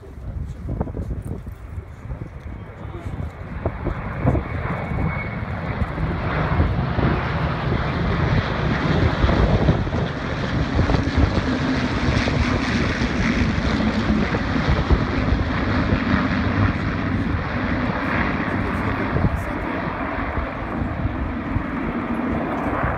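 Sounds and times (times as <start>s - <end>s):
propeller aircraft engines droning: 0.0s - 22.9s.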